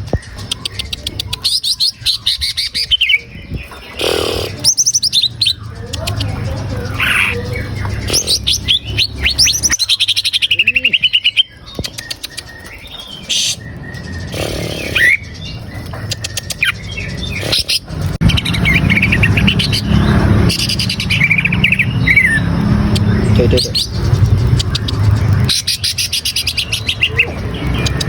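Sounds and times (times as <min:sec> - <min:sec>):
bird chirping and whistling: 0:00.1 - 0:28.0.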